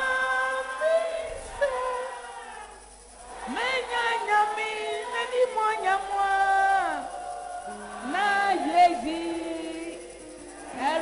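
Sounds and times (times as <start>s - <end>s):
congregation shouting: 0.0s - 11.0s
congregation singing held notes: 0.0s - 11.0s.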